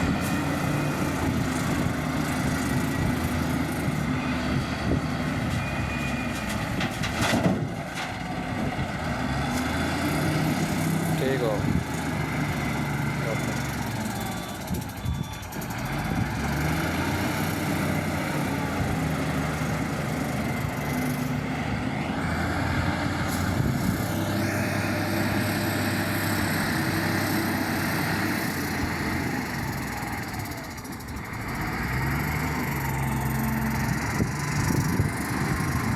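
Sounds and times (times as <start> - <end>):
diesel engine revving under load: 0.0 - 35.9.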